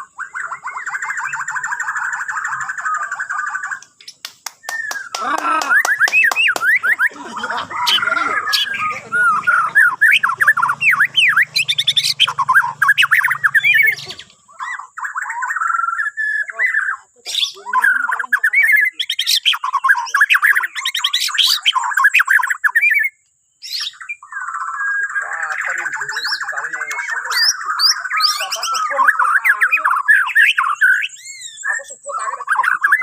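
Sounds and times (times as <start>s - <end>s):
bird singing whistles and chatter: 0.0s - 33.0s.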